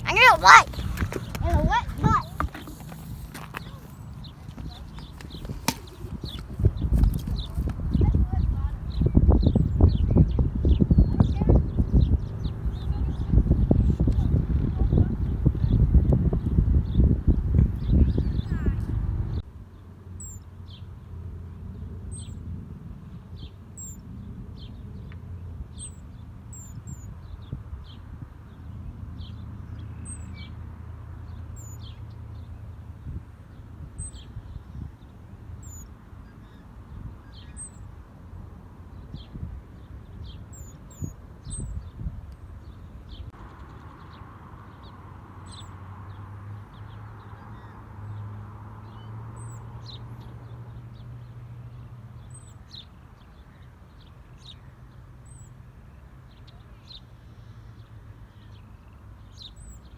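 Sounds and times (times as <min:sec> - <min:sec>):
small birds chirping: 0:00.0 - 0:21.0, 0:21.7 - 0:22.5, 0:23.3 - 0:59.9.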